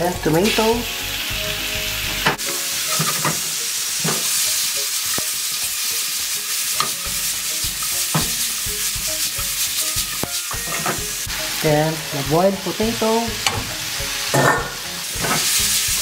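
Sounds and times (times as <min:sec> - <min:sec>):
vegetables sizzling in frying pan: 0:00.0 - 0:16.0
wooden spatula scraping a pan: 0:02.2 - 0:11.7, 0:12.7 - 0:16.0.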